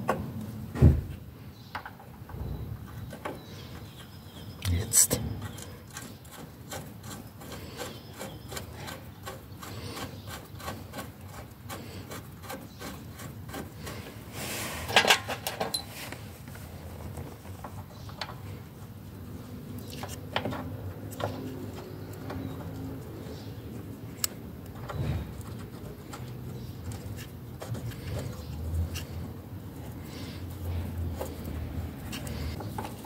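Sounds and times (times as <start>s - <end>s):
scraping and clicking of parts: 5.4s - 33.0s.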